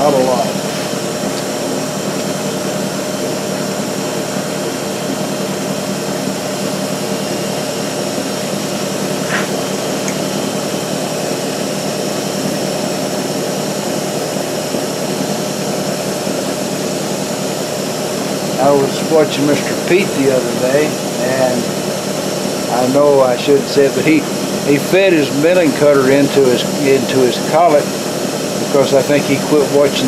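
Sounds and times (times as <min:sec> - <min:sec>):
milling machine cutting metal: 0:00.0 - 0:30.0.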